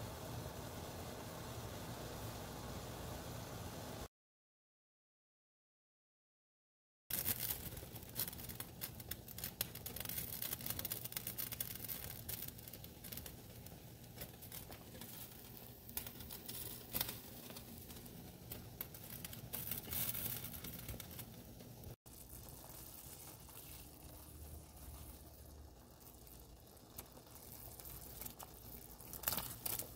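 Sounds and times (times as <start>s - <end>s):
water boiling in covered pot: 0.0s - 4.1s, 7.1s - 29.9s.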